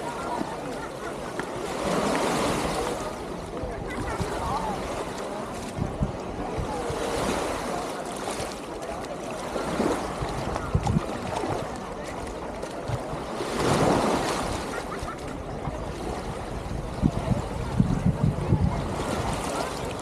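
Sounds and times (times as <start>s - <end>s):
waves washing onto shore: 0.0s - 20.0s.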